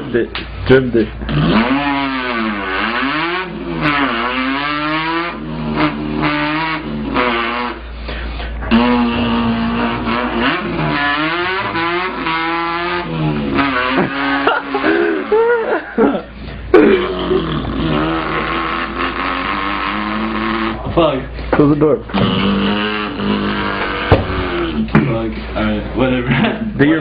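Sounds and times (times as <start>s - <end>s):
person imitating revving engine: 1.3s - 8.0s, 8.6s - 21.2s, 22.1s - 25.0s.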